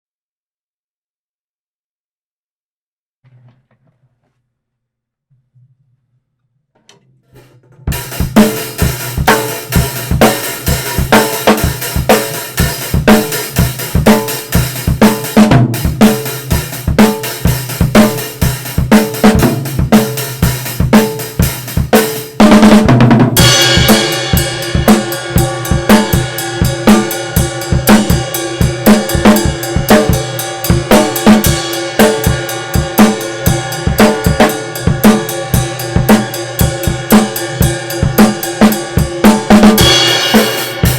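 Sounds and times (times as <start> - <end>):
acoustic drum kit groove: 7.4 - 40.9.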